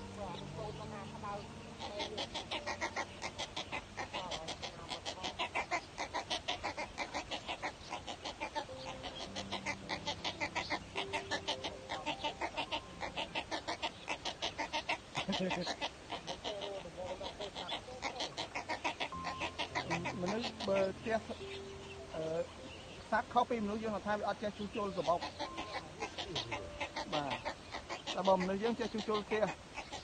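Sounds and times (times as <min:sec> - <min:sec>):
waterbird nestlings calling: 0:00.0 - 0:30.0.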